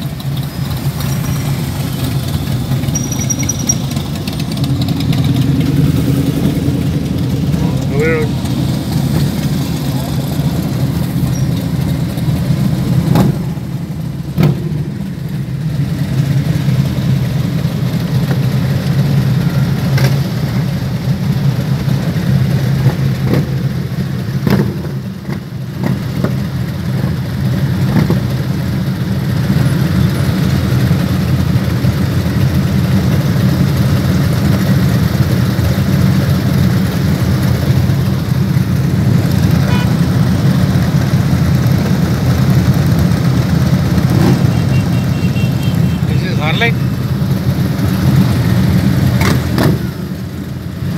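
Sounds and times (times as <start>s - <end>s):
motorcycle engines idling: 0.0s - 50.9s.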